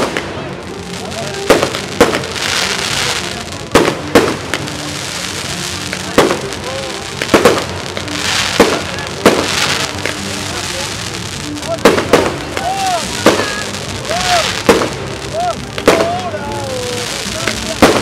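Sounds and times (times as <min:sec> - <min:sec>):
fireworks bursting: 0:00.0 - 0:18.0
rushing hiss: 0:00.0 - 0:18.0.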